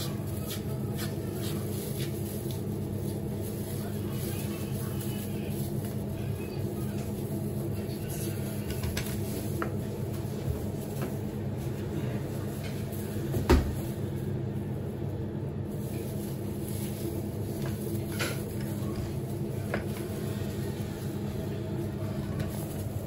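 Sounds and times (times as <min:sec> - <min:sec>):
kitchen equipment humming: 0:00.0 - 0:23.0.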